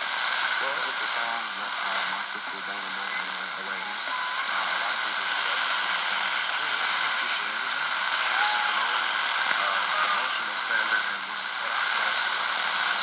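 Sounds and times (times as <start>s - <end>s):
radio static hiss: 0.0s - 13.0s
faint radio whistle: 0.1s - 13.0s.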